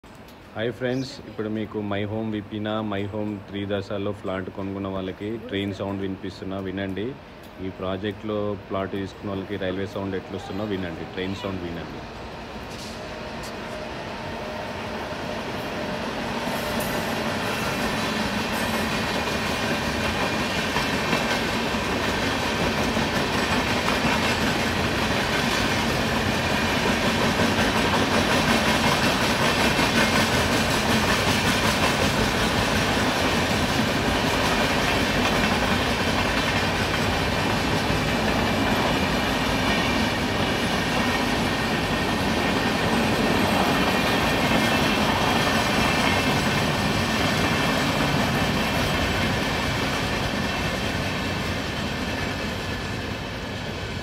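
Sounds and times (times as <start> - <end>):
train rumbling and rattling: 0.0 - 54.0.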